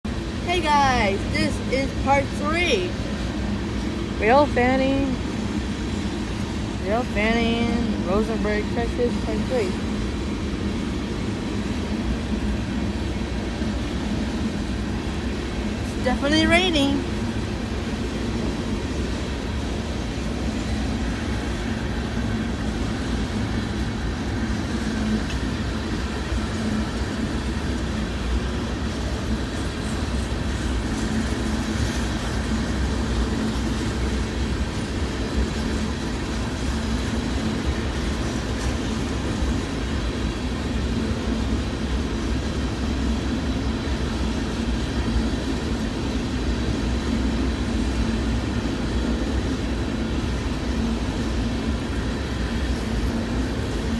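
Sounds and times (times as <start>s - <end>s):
train cars rumbling on rails: 0.1s - 53.9s.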